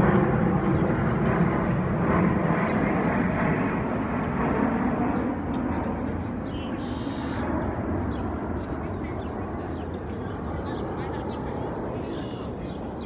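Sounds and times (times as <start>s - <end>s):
distant engine rumble: 0.0s - 13.0s.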